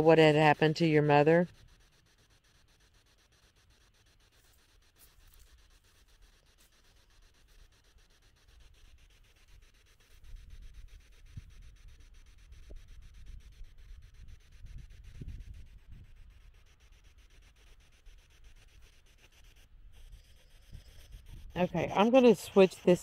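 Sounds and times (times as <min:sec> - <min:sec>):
small ticks: 0:00.6 - 0:23.0.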